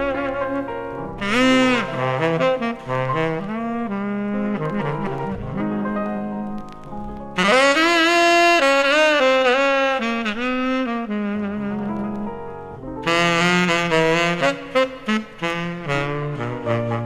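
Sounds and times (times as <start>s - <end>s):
tenor saxophone melody: 0.0s - 6.6s, 7.4s - 12.4s, 13.0s - 17.0s.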